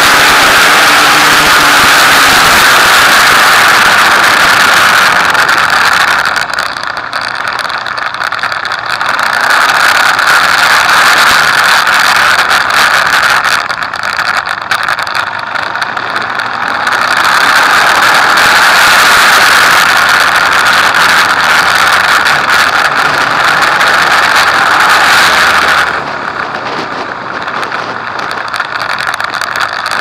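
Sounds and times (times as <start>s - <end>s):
motorcycle engine: 0.0s - 30.0s
wind noise: 0.0s - 30.0s.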